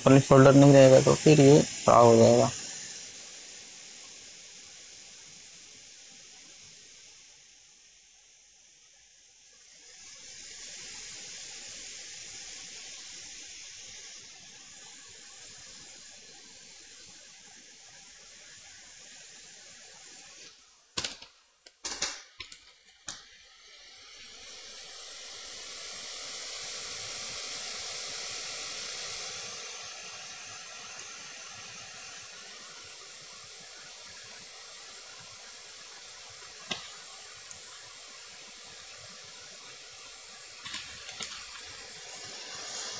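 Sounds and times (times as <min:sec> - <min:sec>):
hot air blower hissing: 0:00.0 - 0:07.8, 0:09.6 - 0:20.5, 0:23.0 - 0:42.9.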